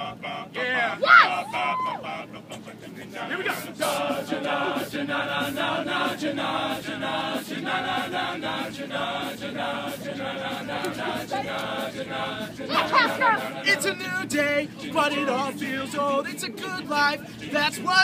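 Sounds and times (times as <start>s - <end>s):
male group singing in harmony: 0.0s - 18.0s.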